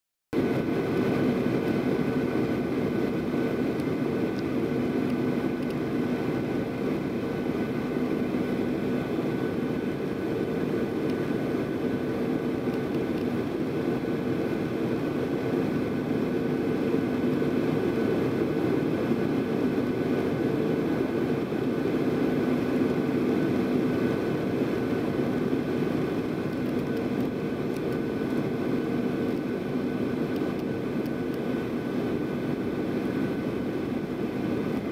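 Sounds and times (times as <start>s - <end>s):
jet engine drone and airflow: 0.4s - 34.9s.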